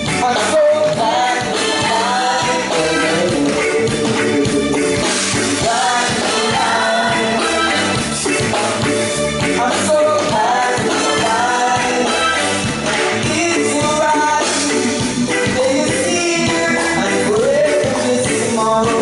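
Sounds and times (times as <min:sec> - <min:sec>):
live band music: 0:00.0 - 0:19.0
person singing: 0:00.2 - 0:04.9, 0:05.5 - 0:07.9, 0:09.6 - 0:19.0.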